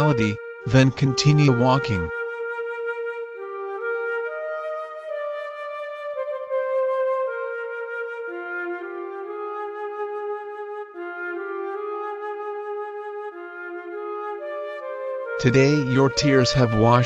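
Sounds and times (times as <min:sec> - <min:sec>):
slow melody of long notes: 0:00.0 - 0:17.0.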